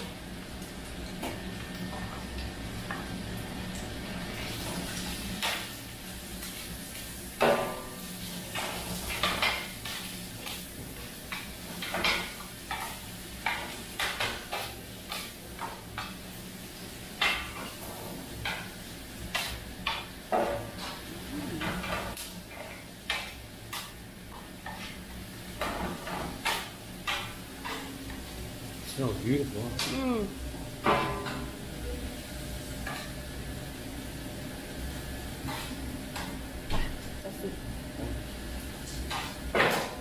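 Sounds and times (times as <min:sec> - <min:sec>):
griddle sizzling: 0:00.0 - 0:40.0.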